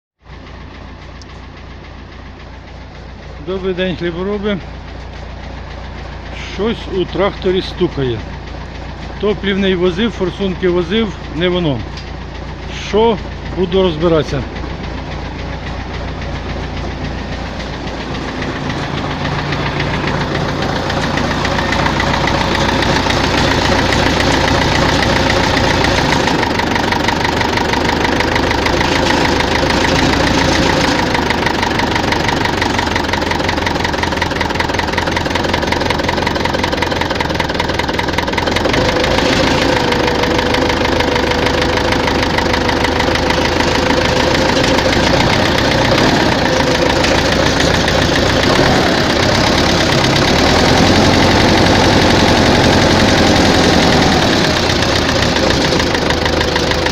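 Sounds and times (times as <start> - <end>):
diesel tractor engine knocking: 0.2 - 56.9.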